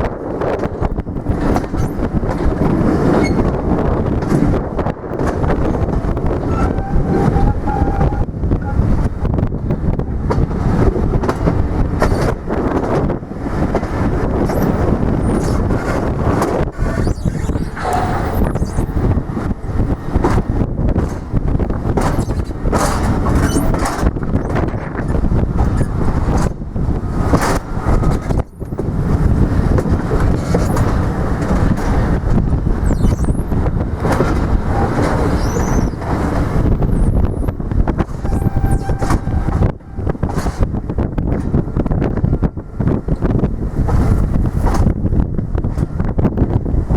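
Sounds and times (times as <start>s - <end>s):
train rumbling past: 0.0s - 46.9s
wind buffeting microphone: 0.0s - 46.9s.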